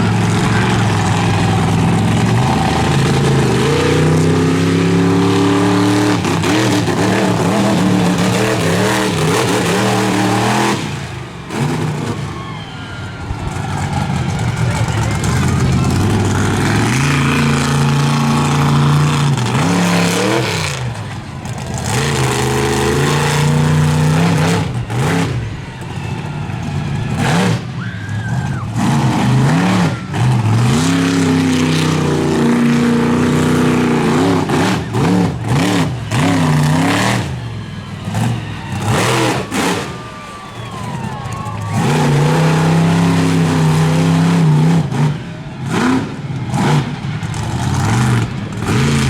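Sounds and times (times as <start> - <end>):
truck engine revving hard: 0.0 - 12.5, 13.2 - 49.0.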